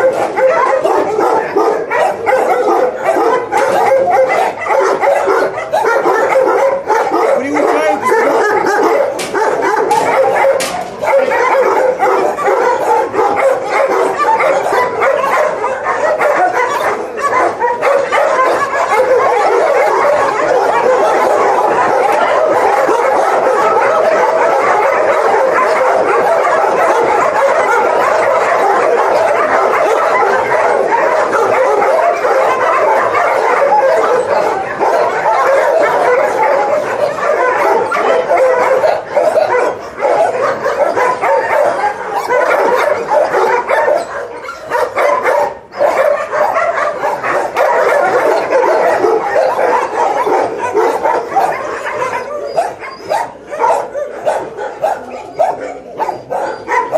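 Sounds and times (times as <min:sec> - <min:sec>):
dogs barking and yelping: 0:00.0 - 0:56.9.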